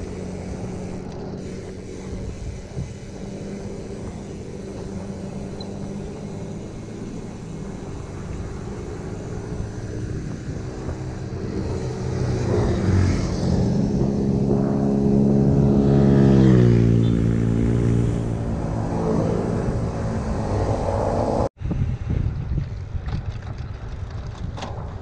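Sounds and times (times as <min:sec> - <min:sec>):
vehicle approaching: 0:00.0 - 0:22.1
road traffic: 0:00.0 - 0:24.8.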